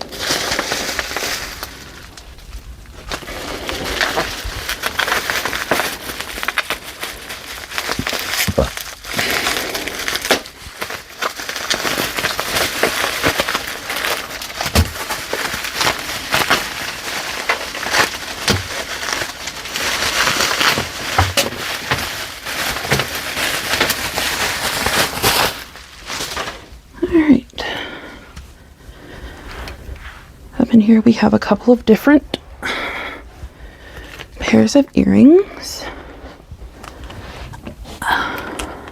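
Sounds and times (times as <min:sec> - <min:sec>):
wrapping material crinkling: 0:00.0 - 0:38.9.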